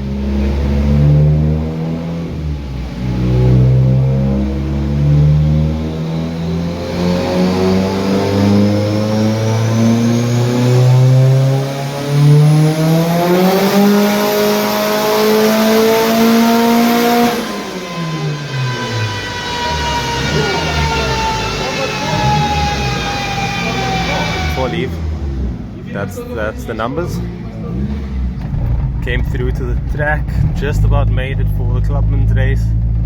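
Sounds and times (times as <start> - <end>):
car engine revving at full throttle: 0.0 - 33.0.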